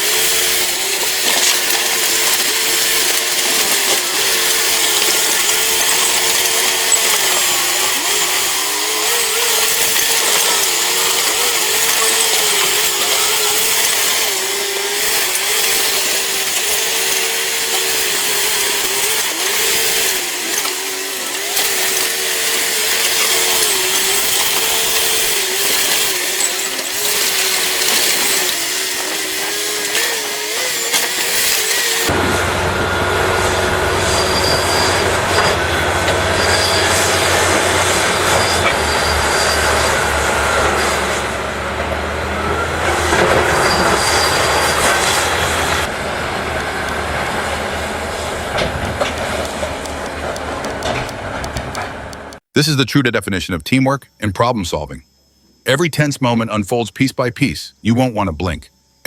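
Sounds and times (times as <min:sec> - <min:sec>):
heavy machinery whining: 0:00.0 - 0:52.5.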